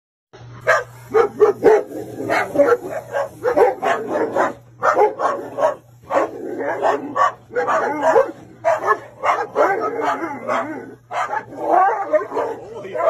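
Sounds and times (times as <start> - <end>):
dogs barking excitedly: 0.6 - 13.0.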